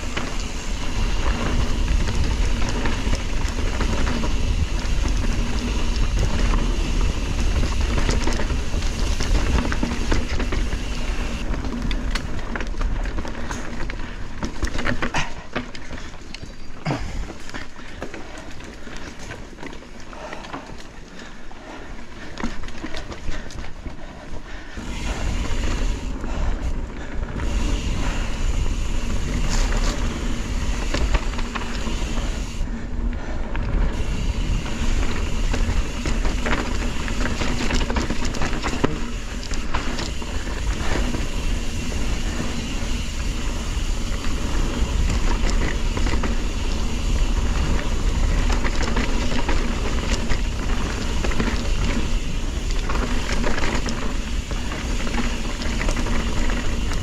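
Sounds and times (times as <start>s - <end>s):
bike rattling over bumps: 0.0s - 57.0s
tyres on dirt trail: 0.0s - 57.0s.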